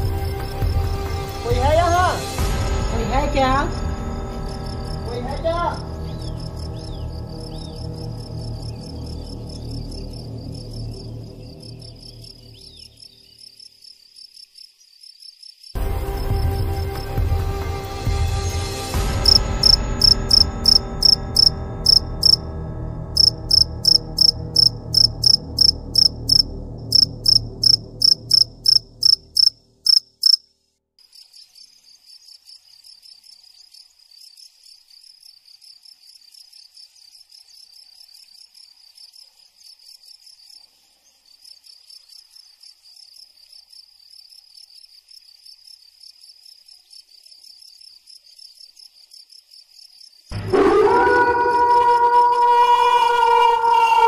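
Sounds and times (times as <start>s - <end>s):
loud cricket chirping: 2.8s - 17.2s, 18.9s - 22.5s, 23.1s - 54.0s
cricket chorus: 3.7s - 17.2s, 19.2s - 22.4s, 23.2s - 50.4s.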